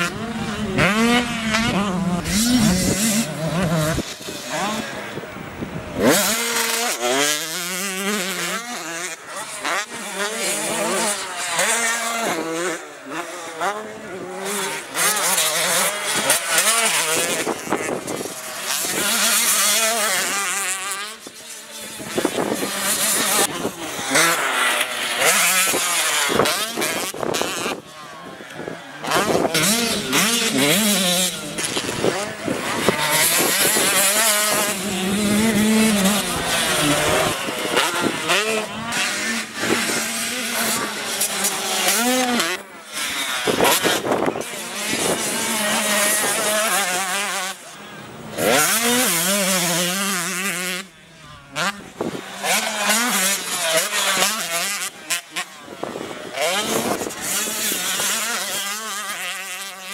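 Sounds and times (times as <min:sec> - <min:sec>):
motocross bikes revving: 0:00.0 - 0:59.9.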